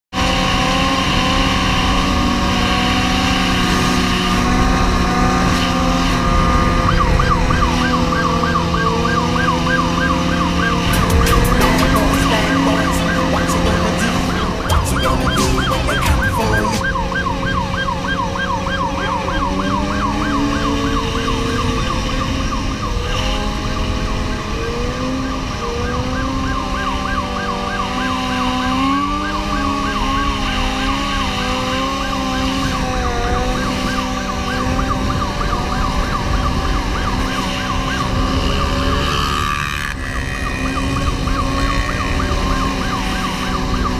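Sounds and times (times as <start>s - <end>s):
motorcycle engines at speed: 0.1s - 43.9s
police siren yelping: 0.2s - 43.9s.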